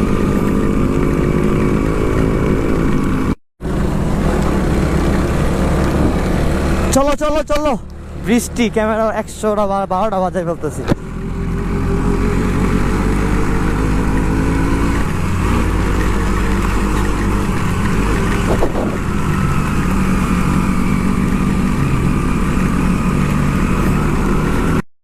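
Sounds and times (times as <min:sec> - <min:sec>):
motorcycle engine running: 0:00.0 - 0:24.8
wind and road noise: 0:00.0 - 0:24.8.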